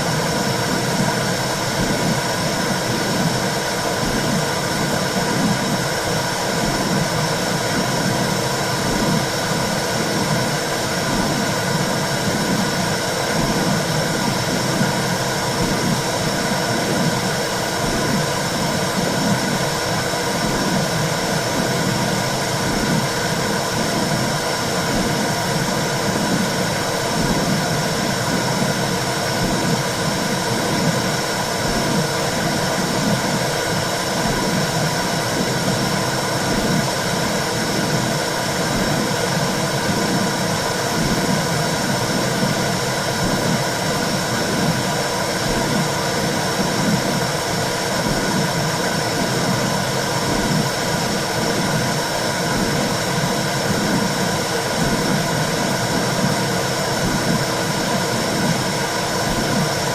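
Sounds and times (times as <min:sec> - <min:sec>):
low pulsing throb: 0:00.0 - 0:59.9
steady rushing noise: 0:00.0 - 0:59.9.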